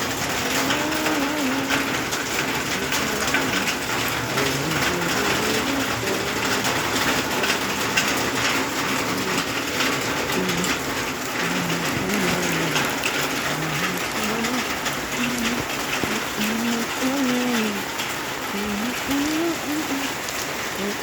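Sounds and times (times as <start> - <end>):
raindrops ticking on surfaces: 0.0 - 21.0
steady rain: 0.0 - 21.0.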